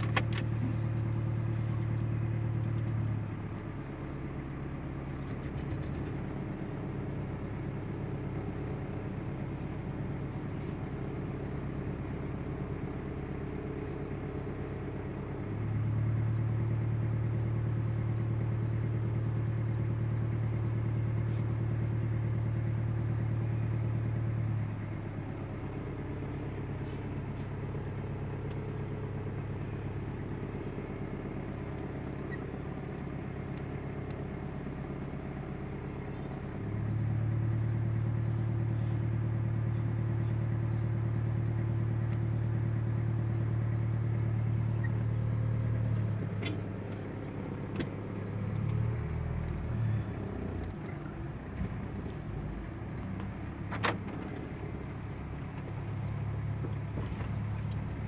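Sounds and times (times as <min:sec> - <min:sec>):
car engine hum inside cabin: 0:00.0 - 0:58.0.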